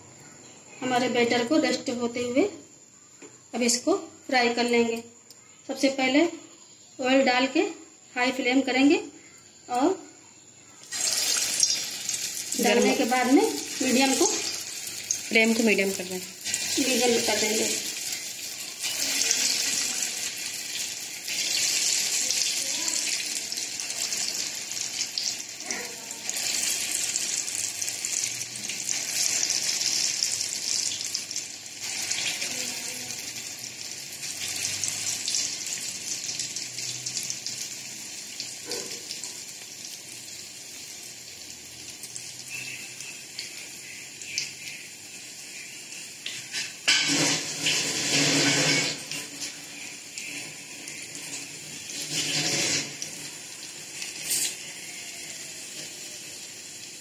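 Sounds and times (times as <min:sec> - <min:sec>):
batter sizzling in hot oil: 0:10.7 - 0:57.0.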